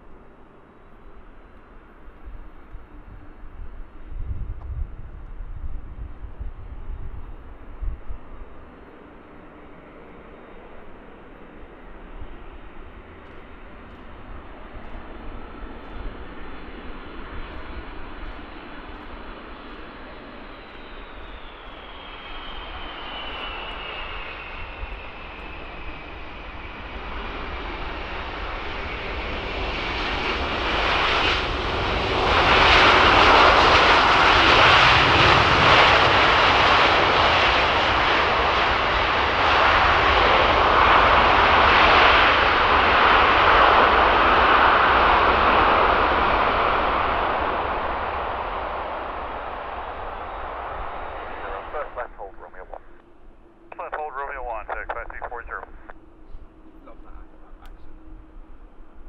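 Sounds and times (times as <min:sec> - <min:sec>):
high engine whine: 0:00.0 - 0:59.0
jet aircraft engines: 0:00.0 - 0:59.0.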